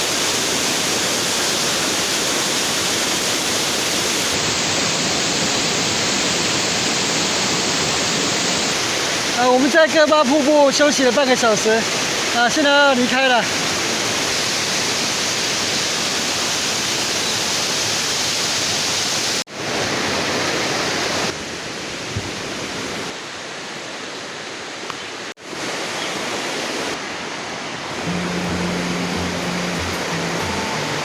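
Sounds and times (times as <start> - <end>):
waterfall and stream rushing: 0.0 - 31.0.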